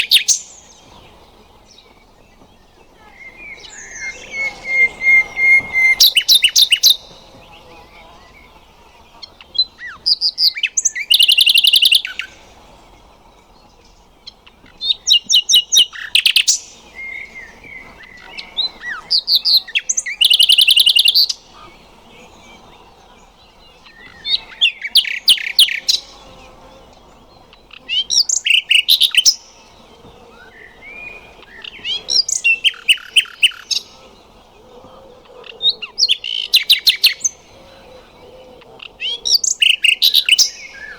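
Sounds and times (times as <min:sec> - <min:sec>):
nightingale singing trills: 0:00.0 - 0:40.9.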